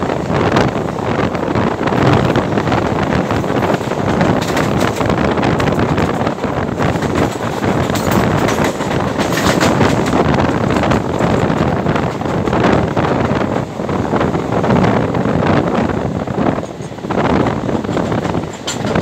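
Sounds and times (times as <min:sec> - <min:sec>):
moving train running noise: 0:00.0 - 0:19.0
wind buffeting microphone: 0:00.0 - 0:19.0.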